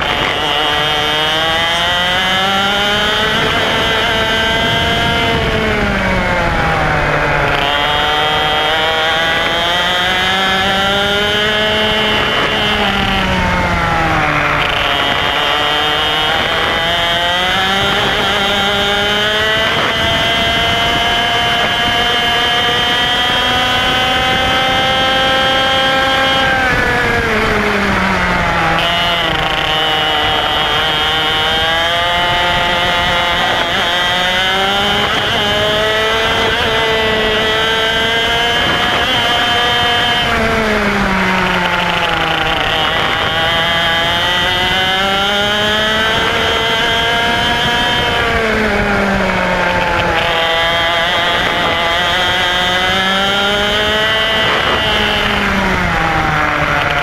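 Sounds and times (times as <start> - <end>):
kart engine at racing speed: 0.0 - 57.0.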